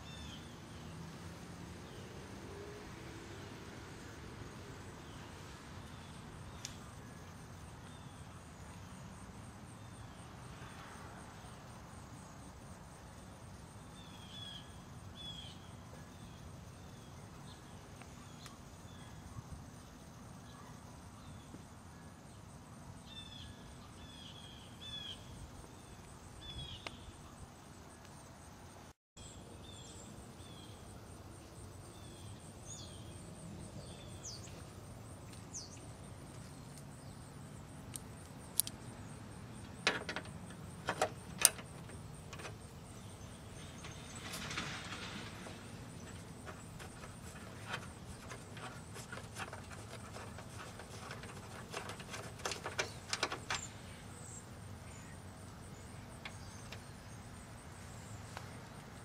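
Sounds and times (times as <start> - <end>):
small birds chirping: 4.8 - 12.4, 13.1 - 28.2, 29.2 - 59.0.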